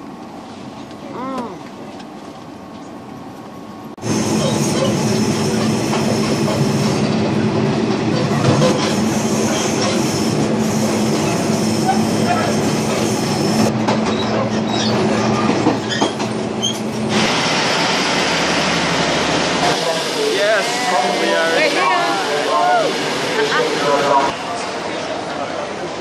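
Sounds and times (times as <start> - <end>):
train carriage rumble: 0.0 - 26.0.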